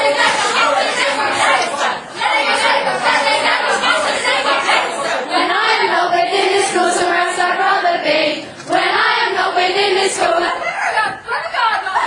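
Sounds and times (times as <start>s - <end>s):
voices singing long notes: 0.0s - 10.7s.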